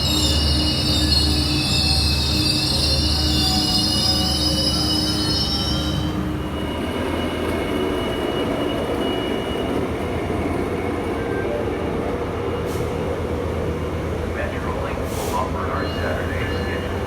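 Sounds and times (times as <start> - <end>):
train wheel squeal: 0.0 - 13.2, 15.1 - 17.0
train low rumble: 0.0 - 17.0.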